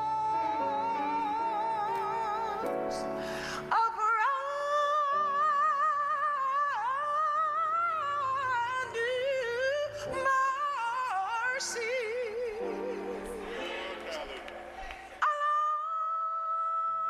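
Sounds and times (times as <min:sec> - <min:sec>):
woman singing gospel: 0:00.0 - 0:13.8, 0:15.2 - 0:17.0.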